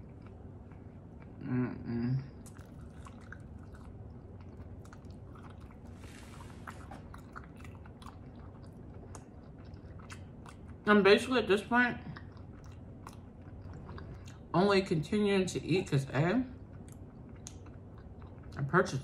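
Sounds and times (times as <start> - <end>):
person chewing fries: 0.0 - 10.9, 12.0 - 14.5, 16.5 - 19.0.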